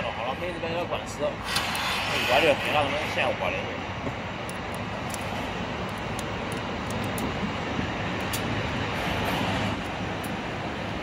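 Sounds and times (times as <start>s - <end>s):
mechanical background noise: 0.0s - 11.0s.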